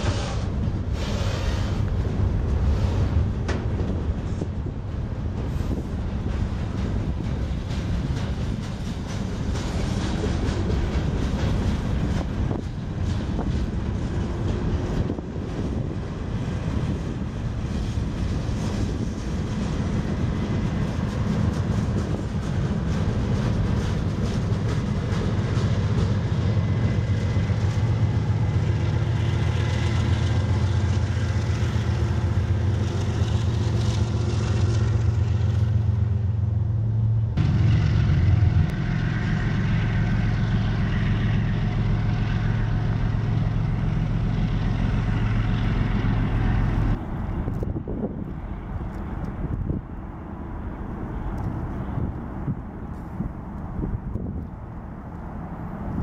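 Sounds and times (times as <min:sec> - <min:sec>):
diesel locomotive engines droning: 0:00.0 - 0:56.0
train wheels rumbling on rails: 0:00.0 - 0:56.0.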